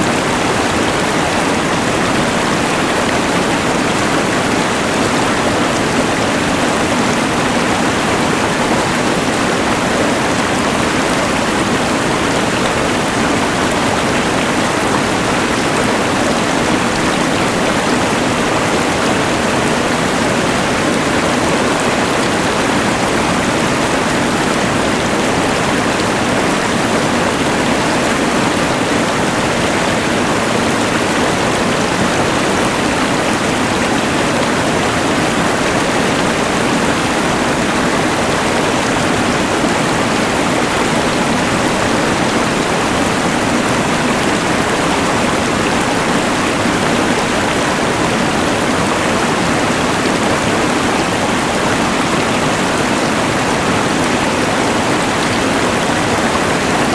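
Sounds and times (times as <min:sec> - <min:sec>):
rushing river: 0:00.0 - 0:56.9.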